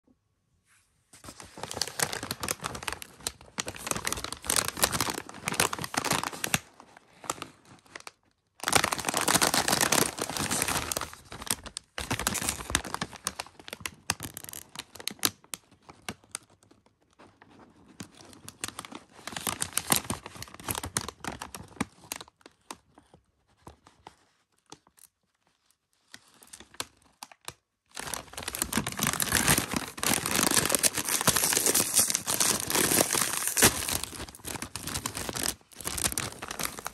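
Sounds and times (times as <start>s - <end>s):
plastic chip bag crinkling: 1.2s - 23.1s, 24.7s - 36.9s.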